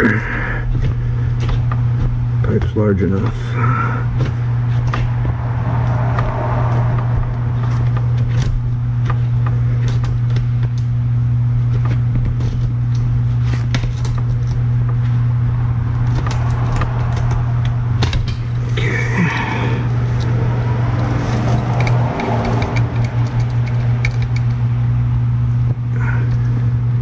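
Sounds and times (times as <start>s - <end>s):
motor humming: 0.0s - 27.0s.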